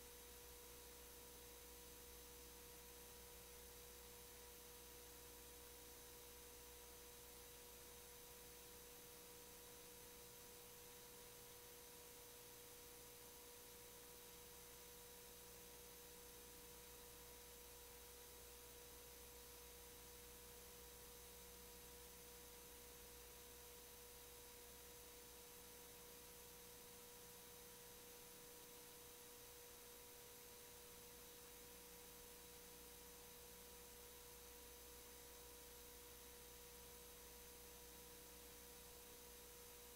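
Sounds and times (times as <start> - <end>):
faint electronic hum: 0.0 - 39.9.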